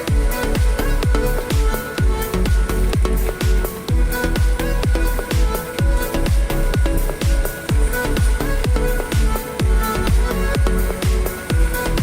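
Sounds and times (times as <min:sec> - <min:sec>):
electronic dance music: 0:00.0 - 0:12.0
kick-drum beat: 0:00.0 - 0:12.0.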